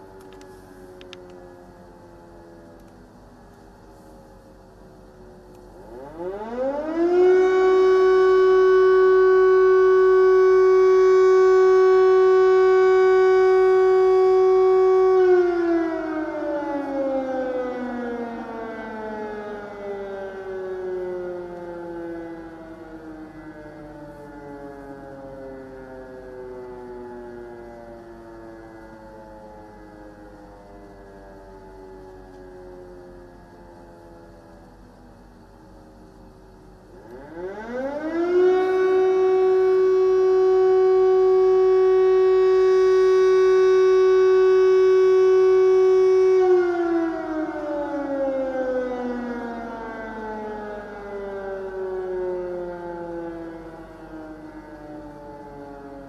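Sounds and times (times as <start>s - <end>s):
air raid siren: 0.0s - 56.0s.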